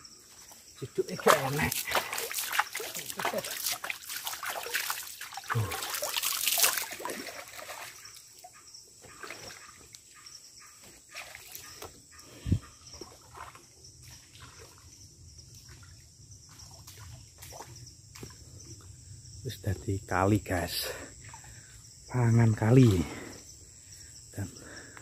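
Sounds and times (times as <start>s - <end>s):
high insect drone: 0.0s - 25.0s
spring water splashing and trickling: 0.3s - 23.5s.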